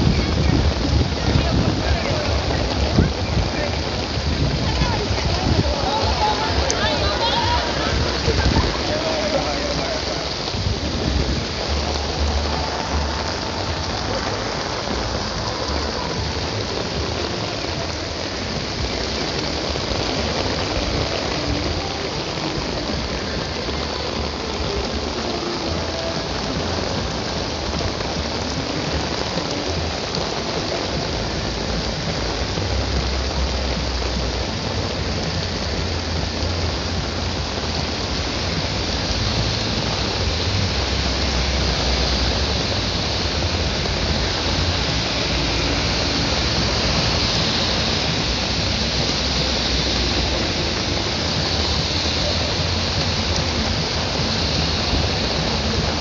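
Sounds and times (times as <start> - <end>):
low rumbling: 0.0 - 56.0
rain falling: 0.0 - 56.0.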